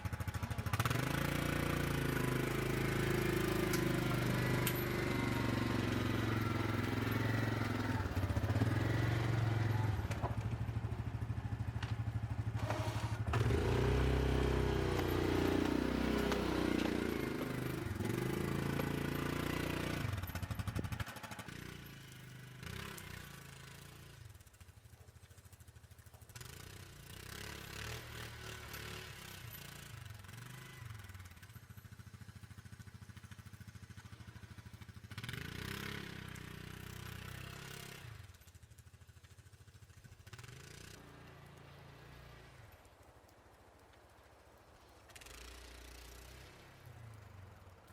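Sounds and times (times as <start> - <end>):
atv engine revving: 0.0 - 43.0, 44.2 - 47.9.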